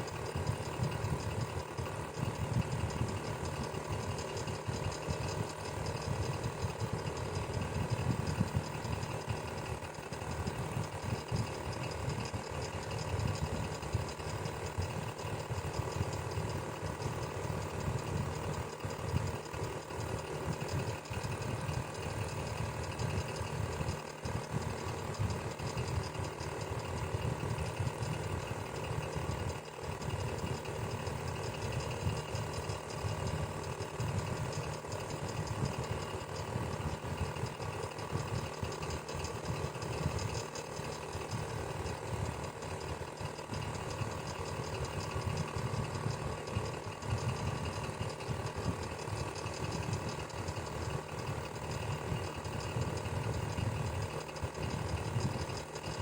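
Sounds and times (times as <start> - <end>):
electric fan humming: 0.0 - 56.0
faint mechanical rattle: 0.0 - 56.0.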